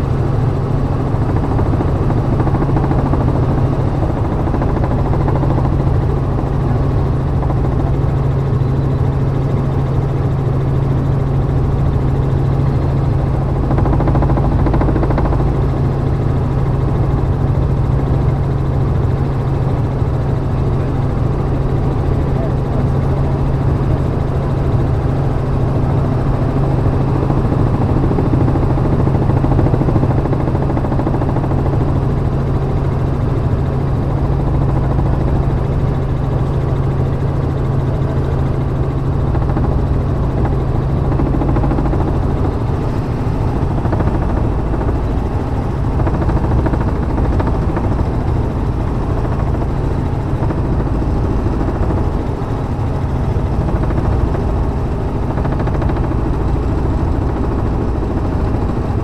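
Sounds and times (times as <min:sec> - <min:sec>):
helicopter drone from cabin: 0:00.0 - 0:59.0.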